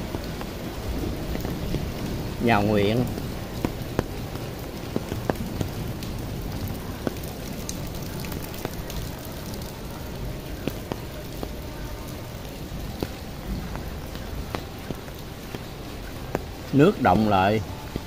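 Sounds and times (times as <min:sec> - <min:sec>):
raindrops tapping umbrella: 0:00.0 - 0:18.0
steady rain falling: 0:00.0 - 0:18.0.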